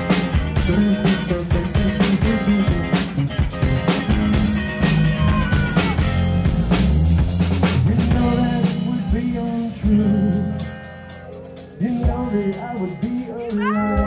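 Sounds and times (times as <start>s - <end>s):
live rock music: 0.0s - 14.0s.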